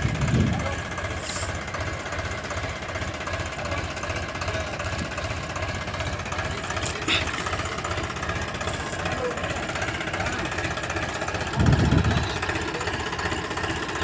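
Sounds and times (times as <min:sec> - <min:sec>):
diesel tractor engine knocking: 0:00.0 - 0:14.0.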